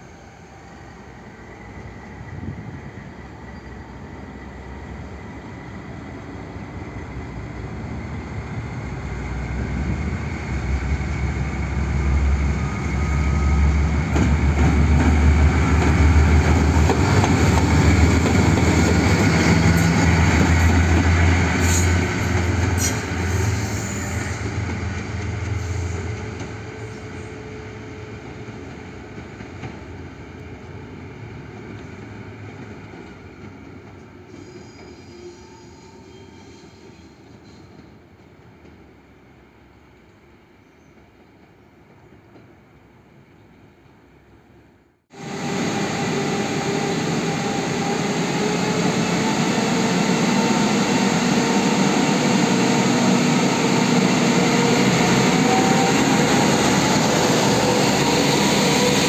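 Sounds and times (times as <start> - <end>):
diesel locomotive passing: 0.0 - 41.5, 45.1 - 59.0.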